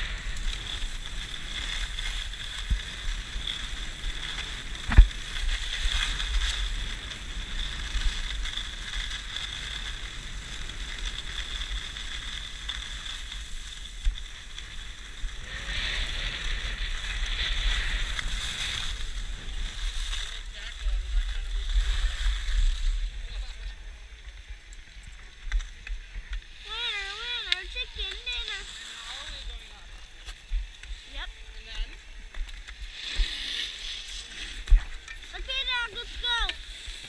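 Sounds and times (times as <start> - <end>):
wind rumbling on microphone: 0.0 - 36.9
skis scraping over snow: 0.0 - 37.0.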